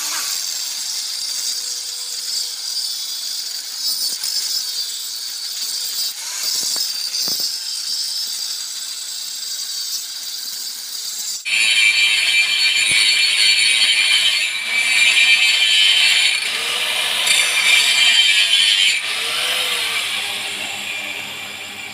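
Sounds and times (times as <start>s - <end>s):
angle grinder grinding metal: 0.0s - 21.9s.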